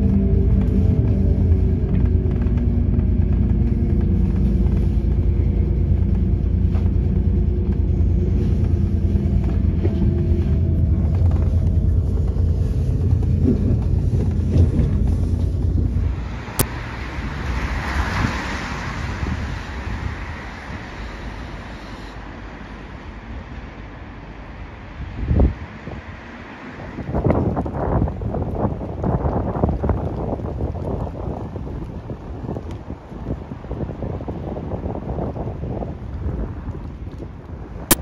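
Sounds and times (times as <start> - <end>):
train rumbling at speed: 0.0 - 38.0.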